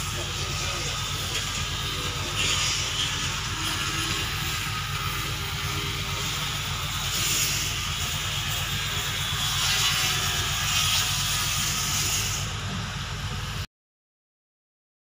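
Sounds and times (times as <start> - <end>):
loud hiss: 0.0 - 13.6
engine running: 0.0 - 13.7.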